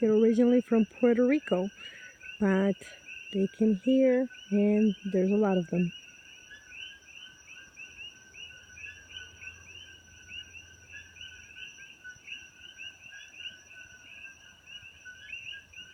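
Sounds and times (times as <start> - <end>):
frogs calling in chorus: 0.0 - 15.9.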